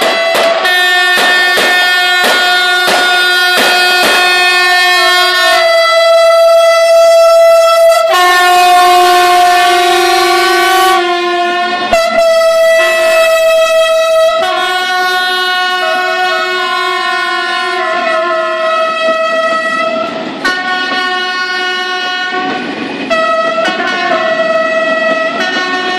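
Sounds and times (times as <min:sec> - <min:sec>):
train coaches rolling by: 0:00.0 - 0:25.9
two-tone train horn: 0:00.0 - 0:25.9.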